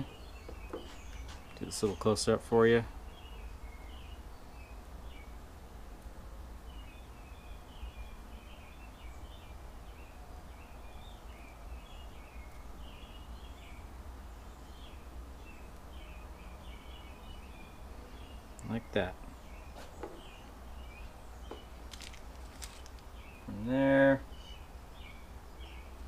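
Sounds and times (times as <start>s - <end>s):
birds twittering: 0.0s - 5.4s, 6.6s - 26.0s.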